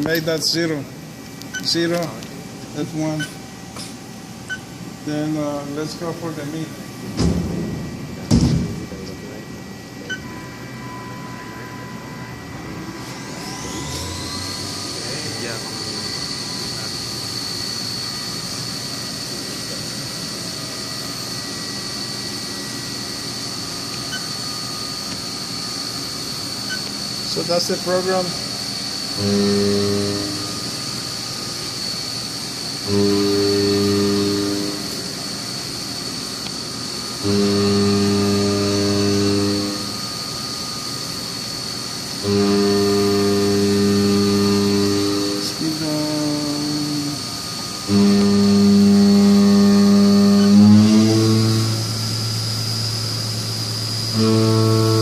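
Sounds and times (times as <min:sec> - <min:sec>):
low even hum: 0:00.0 - 0:55.0
milling machine running: 0:00.0 - 0:55.0
spindle high whine: 0:00.0 - 0:55.0.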